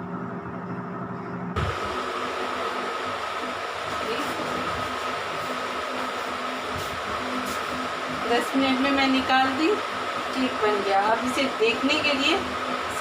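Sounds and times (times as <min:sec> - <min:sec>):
electric appliance fan whirring: 0:00.0 - 0:13.0
low hum: 0:00.0 - 0:13.0
thin steady whine: 0:00.0 - 0:13.0.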